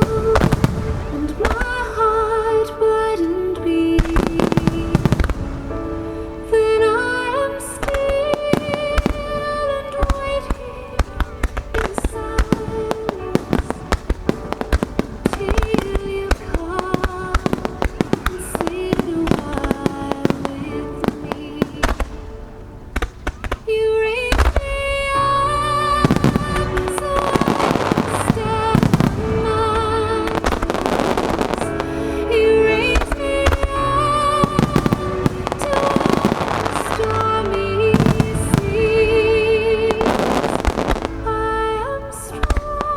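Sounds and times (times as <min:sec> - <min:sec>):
fireworks bursting: 0:00.0 - 0:42.9
music over loudspeakers: 0:00.0 - 0:42.9.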